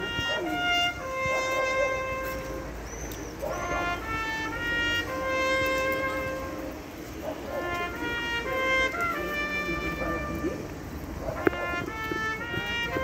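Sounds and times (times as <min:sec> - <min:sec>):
trumpet playing slow bugle call: 0:00.0 - 0:13.0.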